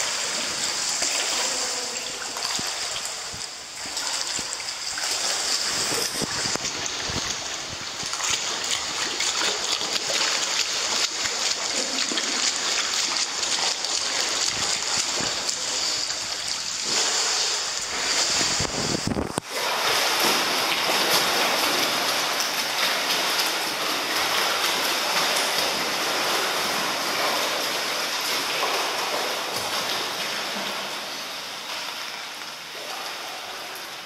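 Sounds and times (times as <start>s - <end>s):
water lapping in swimming pool: 0.0s - 34.0s.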